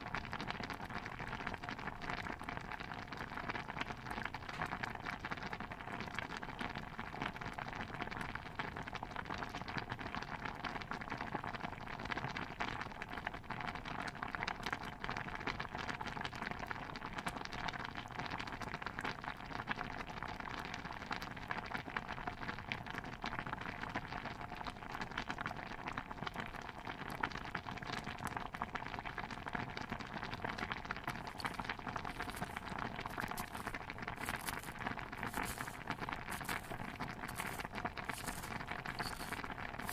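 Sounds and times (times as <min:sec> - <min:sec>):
stew bubbling in a pot: 0:00.0 - 0:39.9.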